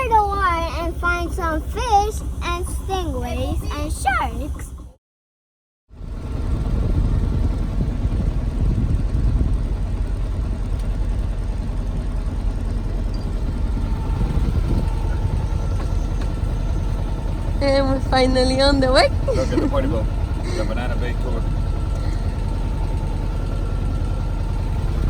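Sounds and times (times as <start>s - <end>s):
boat engine running: 0.0s - 5.0s, 5.9s - 25.0s.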